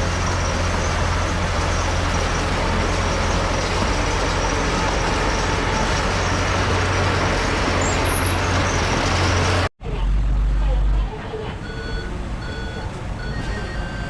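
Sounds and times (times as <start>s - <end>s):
heavy diesel machinery running: 0.0s - 14.0s.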